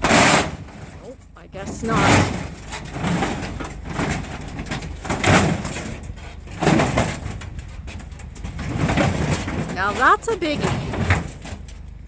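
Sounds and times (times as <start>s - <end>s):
metal barbecue clanking and scraping: 0.0s - 12.0s.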